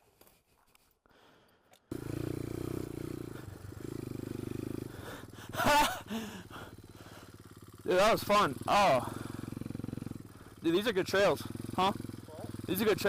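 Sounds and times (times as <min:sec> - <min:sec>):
pit bike engine running: 0:01.9 - 0:13.0
rider vocal outburst: 0:02.0 - 0:13.0.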